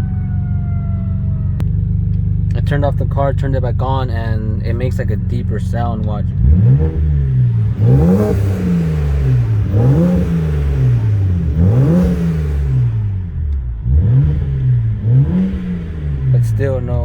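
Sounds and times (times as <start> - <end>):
deep exhaust noise: 0.0 - 17.0
car engine revving: 1.2 - 17.0.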